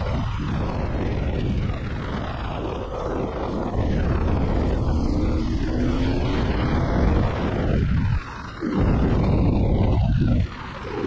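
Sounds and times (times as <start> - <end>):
motorcycle engine revving: 0.0 - 11.0
wind noise on microphone: 0.0 - 11.0.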